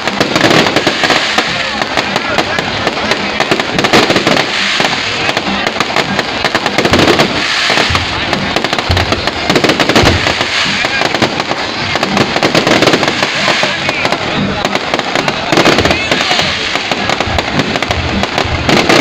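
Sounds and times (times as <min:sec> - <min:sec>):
deep fireworks bangs: 0:00.0 - 0:19.0
fireworks crackling and popping: 0:00.0 - 0:19.0.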